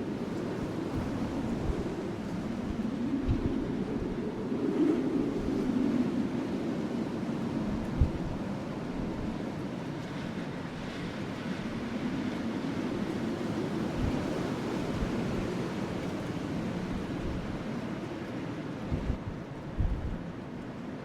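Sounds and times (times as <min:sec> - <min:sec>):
low rush of wind: 0:00.0 - 0:21.0.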